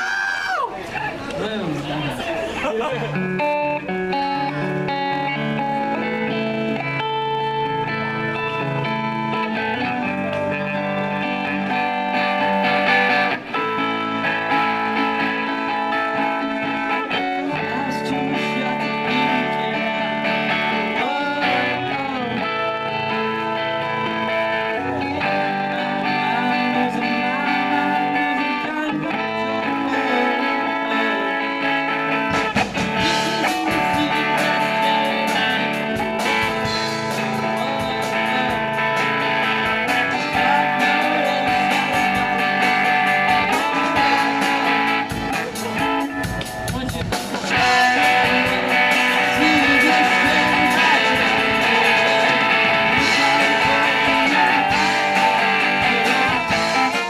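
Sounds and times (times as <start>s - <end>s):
electric guitar playing chords: 2.5s - 57.0s.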